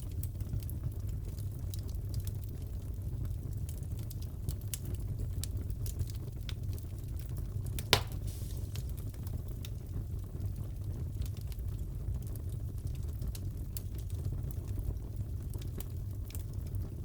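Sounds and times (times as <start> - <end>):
fireplace crackling: 0.9 - 17.0.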